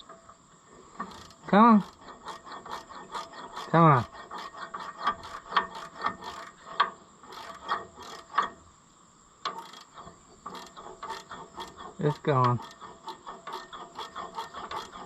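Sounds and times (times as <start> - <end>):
ratcheting wrench clicking: 1.0 - 8.6, 9.4 - 15.0.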